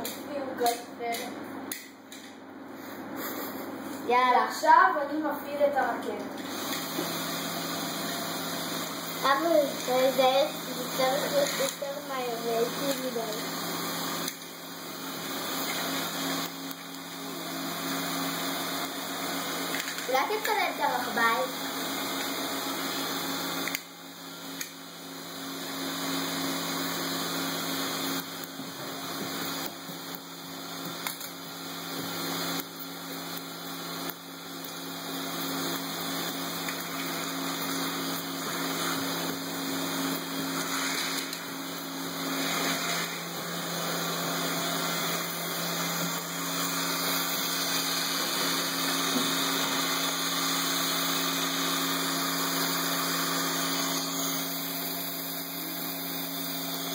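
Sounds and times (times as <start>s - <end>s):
electric motor whirring: 6.4s - 56.9s.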